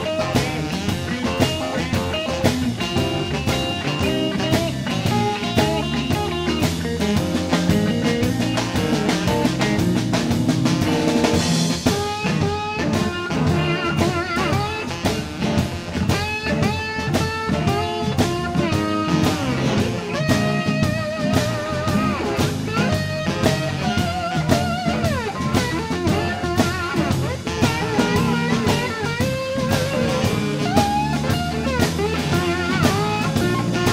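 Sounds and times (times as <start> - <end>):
bass: 0.0 - 33.9
drum kit steady beat: 0.0 - 33.9
lead guitar bent notes: 0.0 - 33.9.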